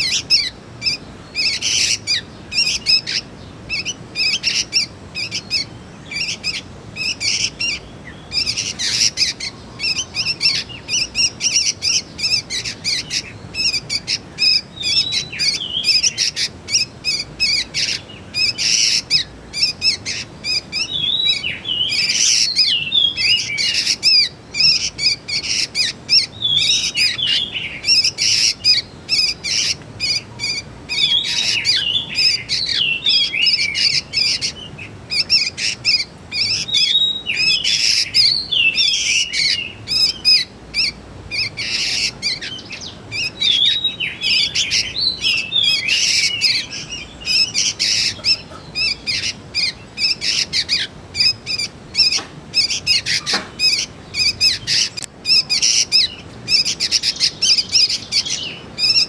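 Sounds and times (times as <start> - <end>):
young birds chirping: 0.0 - 59.0.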